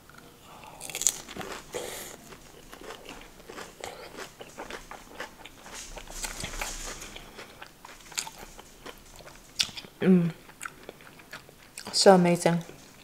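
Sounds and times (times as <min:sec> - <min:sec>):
crunchy chewing: 0:00.5 - 0:12.0.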